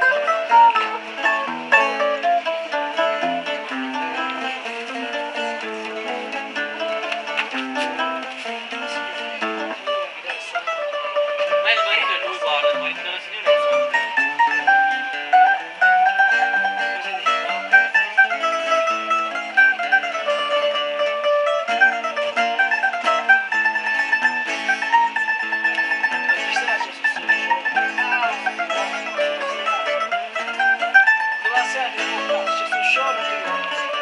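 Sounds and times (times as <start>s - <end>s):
plucked string instruments playing: 0.0s - 34.0s.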